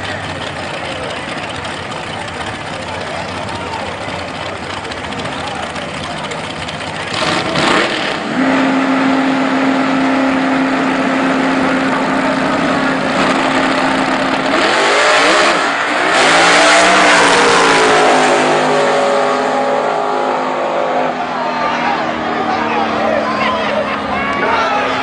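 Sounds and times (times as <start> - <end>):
drag racing engines roaring: 0.0 - 25.0.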